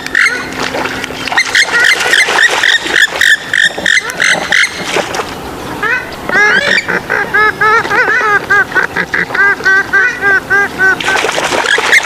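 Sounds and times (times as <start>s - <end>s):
gallinules calling: 0.0s - 12.0s.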